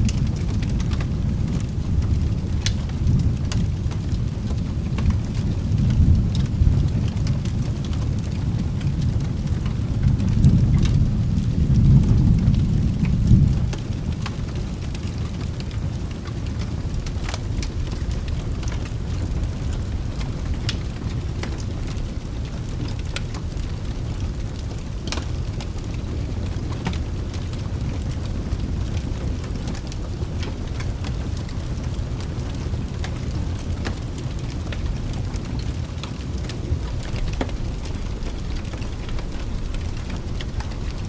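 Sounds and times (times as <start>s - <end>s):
low thunder roll: 0.0s - 41.0s
steady rain: 0.0s - 41.0s
wood fire crackling and popping: 0.0s - 41.0s.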